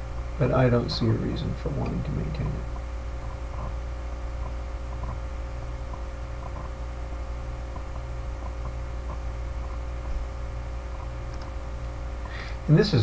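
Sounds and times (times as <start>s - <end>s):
low electrical hum: 0.0s - 13.0s
recording hiss: 0.0s - 13.0s.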